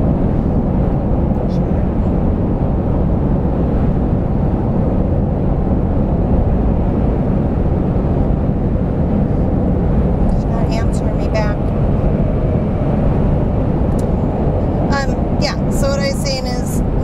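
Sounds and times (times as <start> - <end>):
engine and road noise in cab: 0.0 - 17.0.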